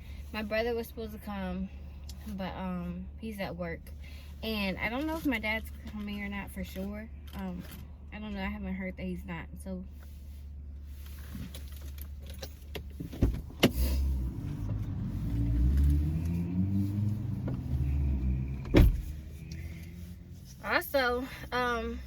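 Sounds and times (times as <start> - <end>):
car rumbling: 0.0 - 22.0.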